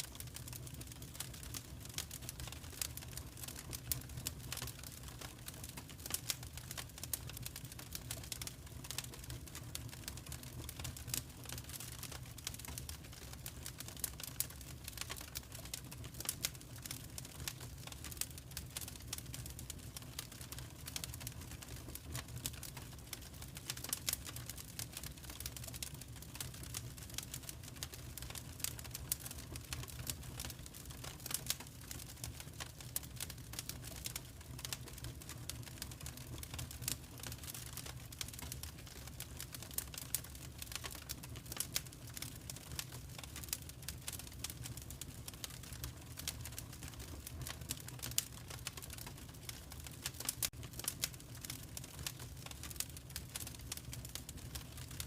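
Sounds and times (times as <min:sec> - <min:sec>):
fire pops and snaps: 0:00.2 - 0:55.0
low fire rumble: 0:00.2 - 0:55.0.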